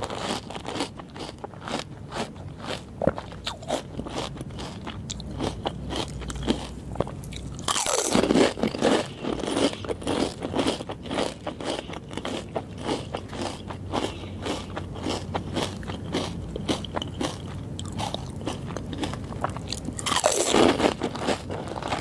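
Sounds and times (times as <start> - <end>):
crunching and chewing: 0.0 - 22.0.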